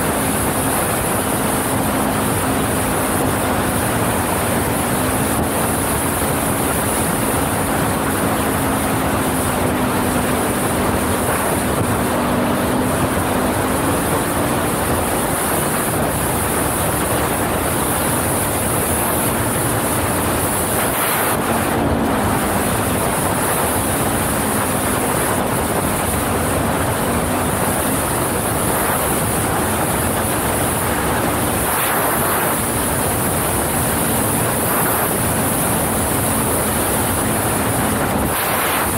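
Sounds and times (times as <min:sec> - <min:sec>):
atv engine running: 0:00.0 - 0:38.9
wind buffeting microphone: 0:00.0 - 0:38.9.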